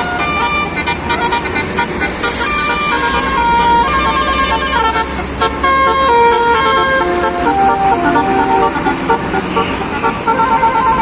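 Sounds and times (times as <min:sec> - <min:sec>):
bus engine running: 0:00.0 - 0:11.0
multi-tone air horn tune: 0:00.0 - 0:11.0.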